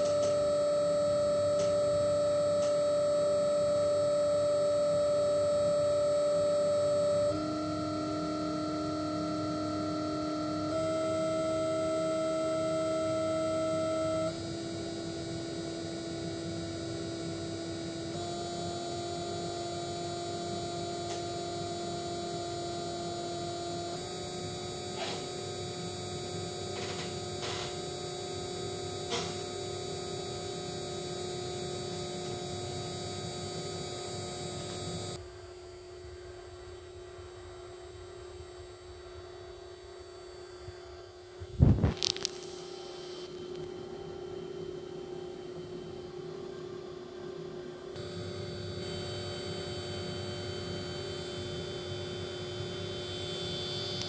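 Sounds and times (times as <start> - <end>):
electric motor whine: 0.0 - 35.2, 41.3 - 54.0.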